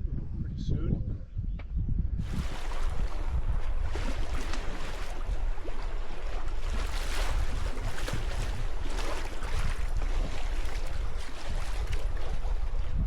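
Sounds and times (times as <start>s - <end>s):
wind buffeting microphone: 0.0s - 13.0s
water splashing along hull: 2.2s - 13.0s.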